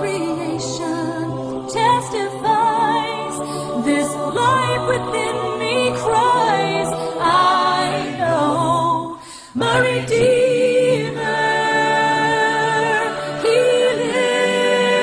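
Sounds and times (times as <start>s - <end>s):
voices singing with vibrato: 0.0s - 15.0s.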